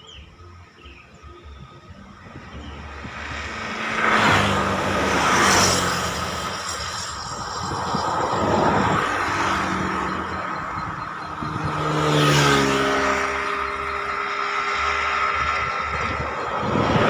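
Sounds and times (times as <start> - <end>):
roadside traffic: 0.0 - 17.0
heavy vehicle passing: 1.5 - 17.0.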